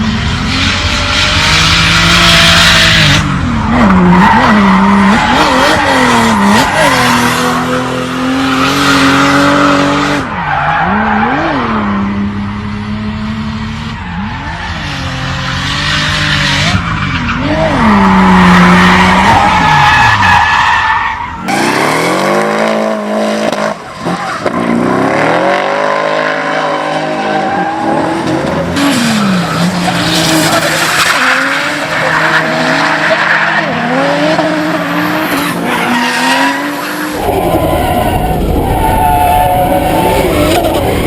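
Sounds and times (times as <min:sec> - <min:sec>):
car engine revving: 0:00.0 - 0:41.0
tires screeching: 0:00.0 - 0:41.0.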